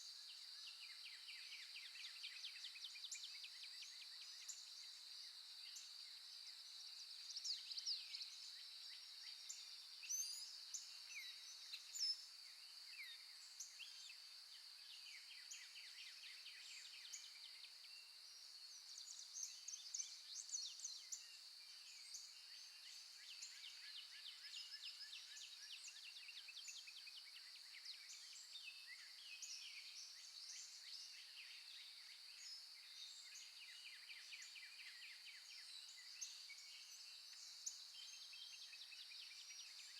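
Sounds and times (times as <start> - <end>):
steady high-pitched hiss: 0.0 - 39.9.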